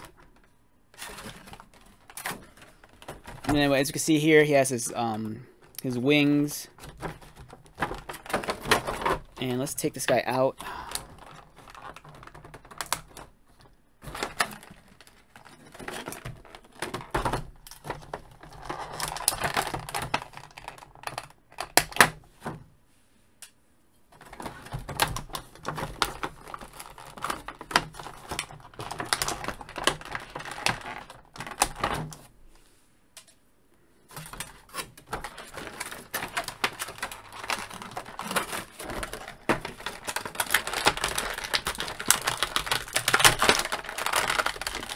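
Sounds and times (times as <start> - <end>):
plastic tray clicking and crackling: 0.0 - 3.7, 6.7 - 10.3, 10.9 - 22.2, 24.1 - 32.3, 34.1 - 44.9.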